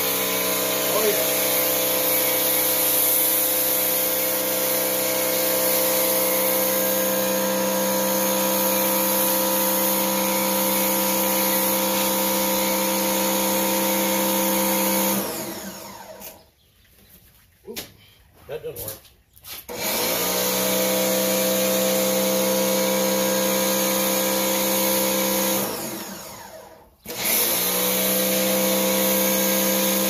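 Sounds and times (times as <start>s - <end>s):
pressure washer spraying foam: 0.0s - 16.4s, 19.7s - 26.5s, 27.1s - 30.0s.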